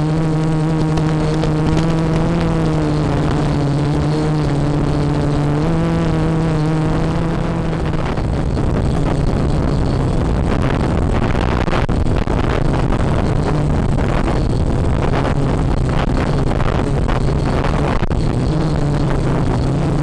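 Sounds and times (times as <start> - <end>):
quadcopter motors buzzing: 0.0 - 20.0
wind buffeting microphone: 0.0 - 20.0.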